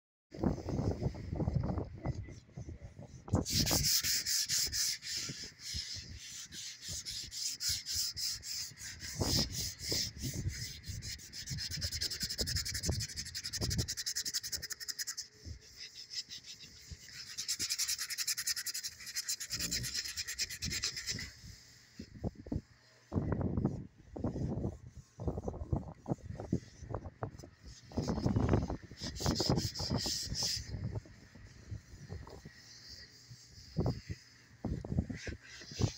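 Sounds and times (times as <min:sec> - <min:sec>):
sandpaper rubbing on door: 0:03.4 - 0:22.4, 0:24.3 - 0:35.9.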